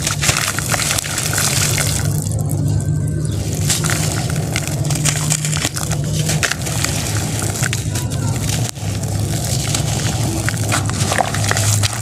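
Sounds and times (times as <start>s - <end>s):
fine crackles of crumbling grit: 0.0s - 12.0s
steady low hum: 0.0s - 12.0s.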